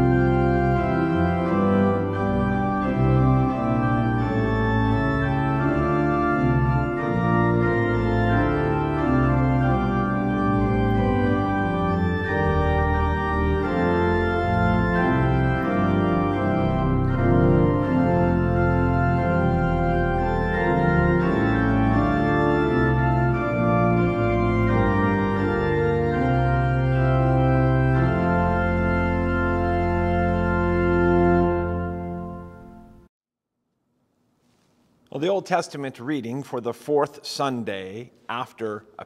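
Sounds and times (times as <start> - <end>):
organ playing slow chords: 0.0 - 33.1.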